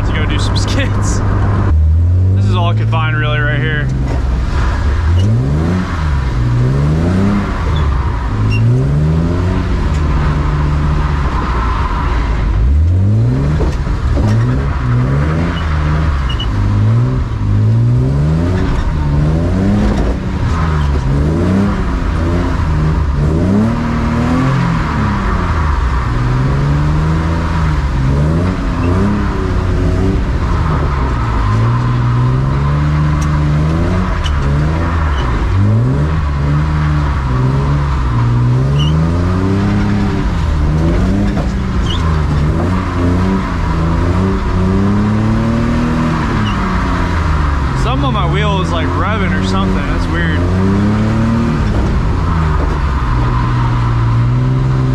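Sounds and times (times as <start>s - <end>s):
car engine revving hard: 0.0s - 54.9s.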